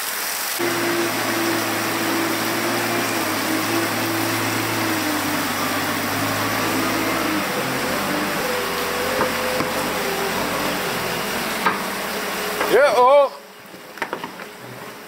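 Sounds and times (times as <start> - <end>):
engine whine: 0.6 - 13.8
wheel loader engine humming: 0.6 - 15.0.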